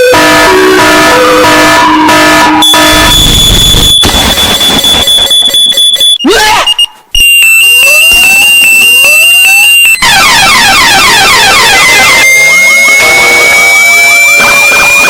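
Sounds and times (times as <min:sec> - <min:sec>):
high piercing alarm tone: 0:02.5 - 0:15.0.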